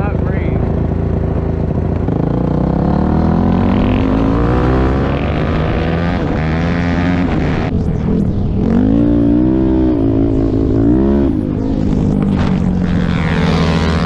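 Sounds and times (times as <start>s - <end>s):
off-road motorcycle engine: 0.0s - 14.0s.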